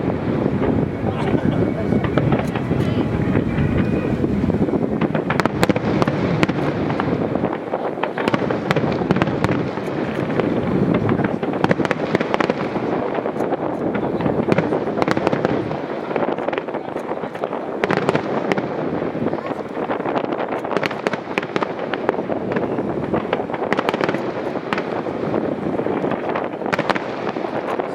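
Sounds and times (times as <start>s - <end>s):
fireworks booming and crackling: 0.0s - 27.9s.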